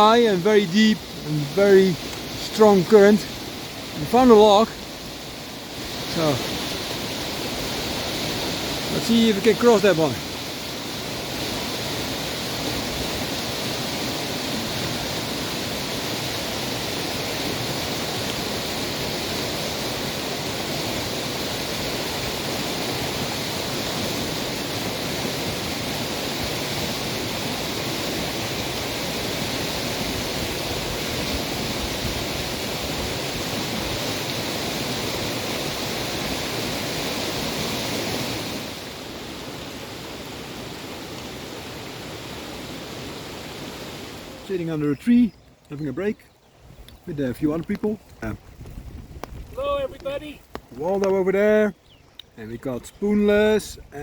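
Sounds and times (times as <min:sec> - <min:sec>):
creek rushing: 0:00.0 - 0:54.0.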